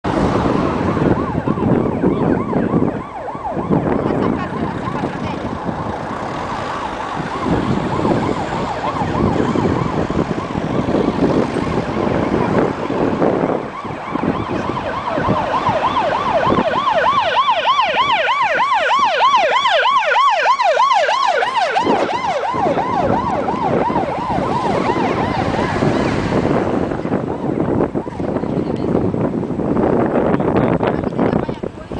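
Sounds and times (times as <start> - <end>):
emergency siren yelping: 0.1 - 28.4.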